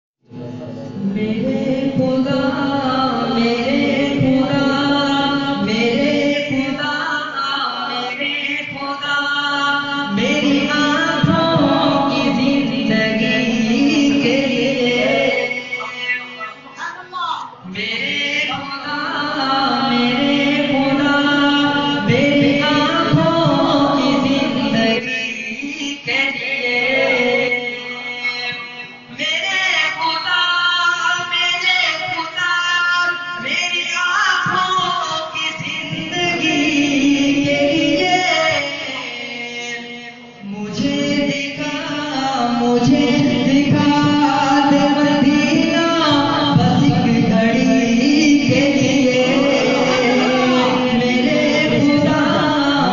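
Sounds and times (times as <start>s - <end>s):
man singing a hymn: 1.0s - 16.4s, 17.6s - 52.9s.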